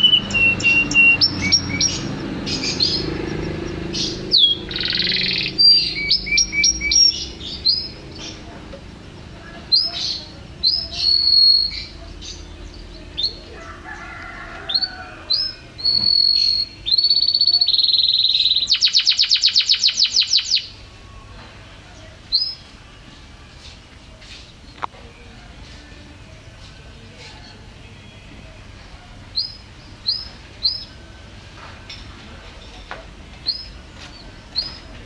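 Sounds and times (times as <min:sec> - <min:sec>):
canary singing: 0:00.0 - 0:35.0.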